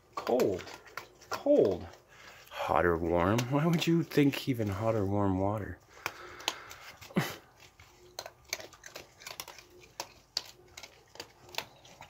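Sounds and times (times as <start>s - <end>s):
claws on wooden boards: 0.0s - 4.9s, 5.8s - 12.0s
animals chewing and crunching: 0.0s - 12.0s.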